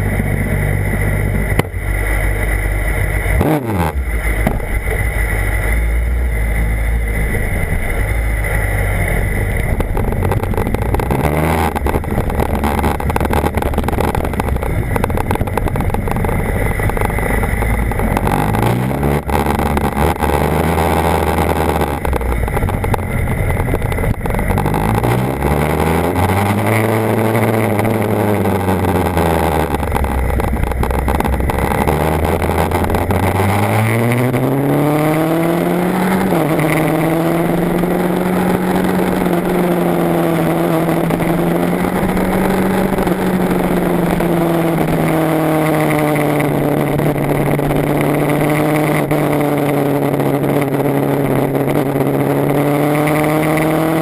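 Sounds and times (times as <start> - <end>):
motorcycle engine running: 0.0 - 54.0
steady rushing noise: 0.0 - 54.0.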